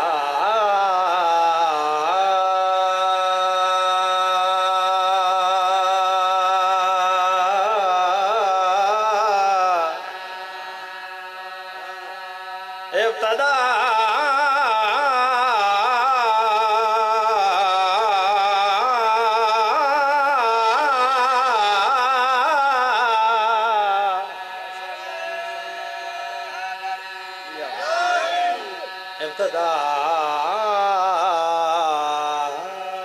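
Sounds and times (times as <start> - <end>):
man chanting into a microphone: 0.0 - 33.0.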